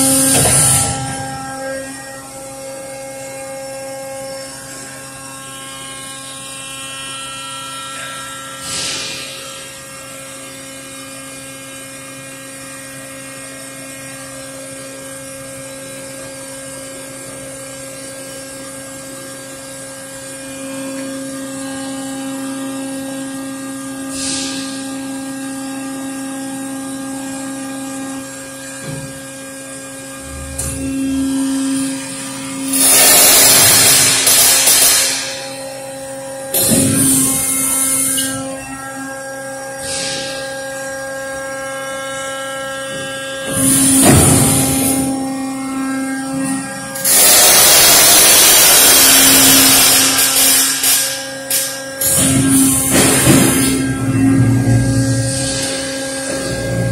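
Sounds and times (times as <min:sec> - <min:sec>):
tube bending machine humming: 0:00.0 - 0:56.9.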